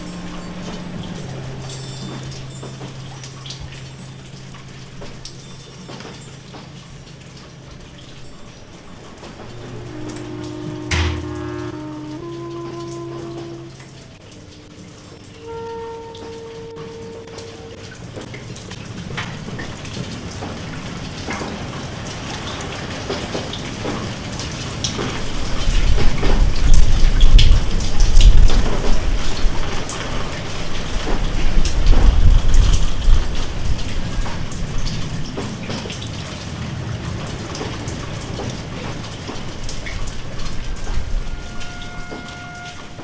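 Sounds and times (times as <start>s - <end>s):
rain patter: 0.0s - 43.0s.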